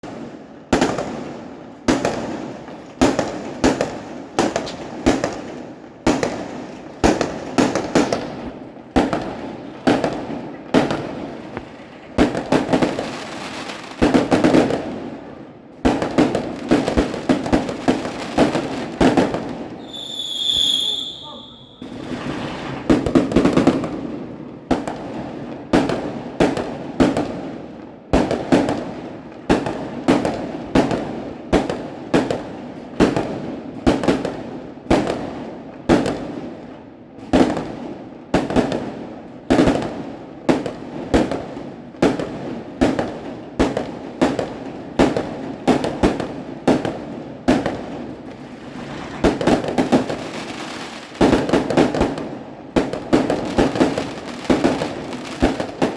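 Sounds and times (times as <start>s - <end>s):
fireworks bangs with echo: 0.0s - 55.9s.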